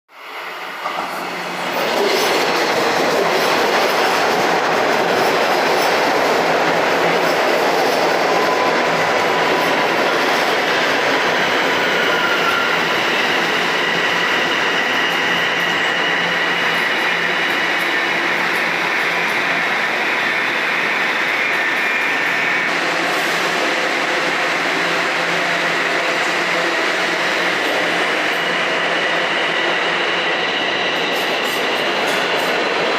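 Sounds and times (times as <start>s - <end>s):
subway train wheels rumbling: 0.1s - 32.9s.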